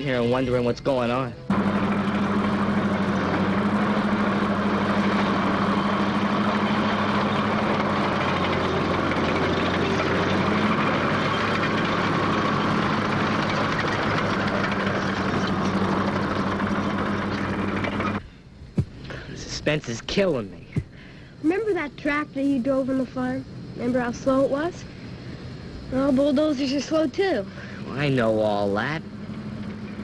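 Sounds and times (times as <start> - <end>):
bulldozer engine droning: 0.0 - 30.0.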